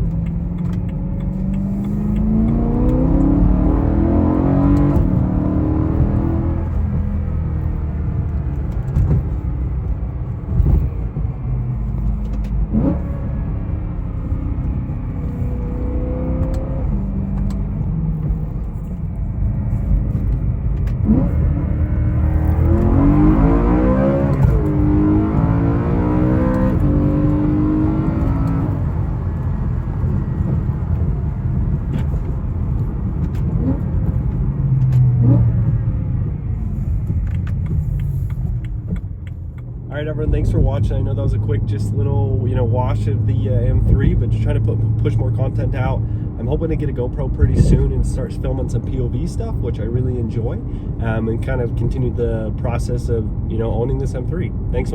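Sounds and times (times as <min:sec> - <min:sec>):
car engine rumbling and revving: 0:00.0 - 0:54.9.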